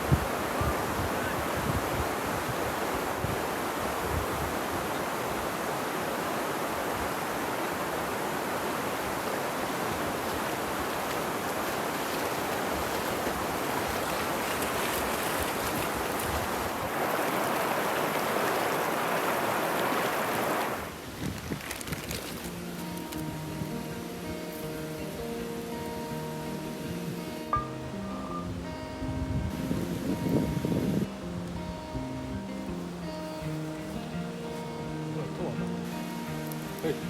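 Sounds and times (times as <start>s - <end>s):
fast-flowing river rushing: 0.0s - 21.2s, 22.3s - 37.0s.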